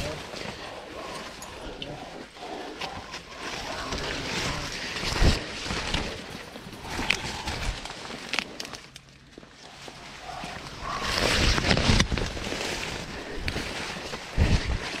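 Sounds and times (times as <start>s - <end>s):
corn leaves rustling against clothing: 0.0s - 15.0s.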